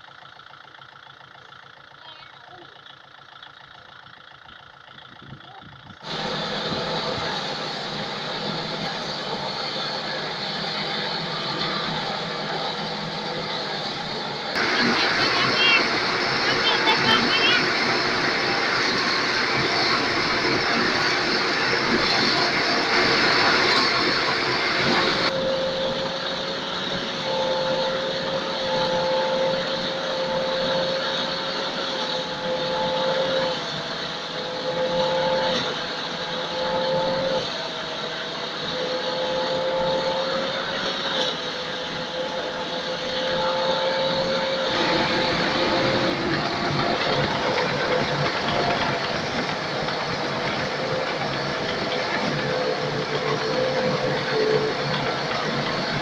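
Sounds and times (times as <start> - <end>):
steady mechanical whine: 0.0 - 56.0
threshing machine running: 0.0 - 56.0.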